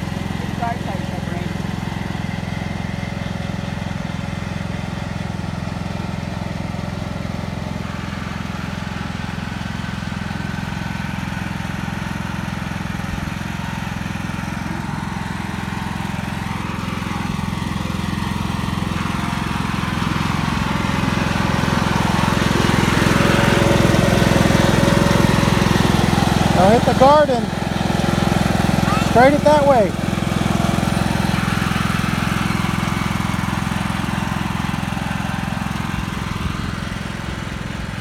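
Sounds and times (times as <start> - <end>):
lawn mower engine running: 0.0 - 38.0.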